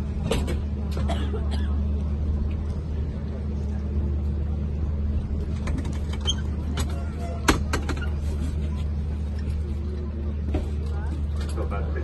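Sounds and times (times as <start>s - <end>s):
crowd murmur: 0.0s - 12.0s.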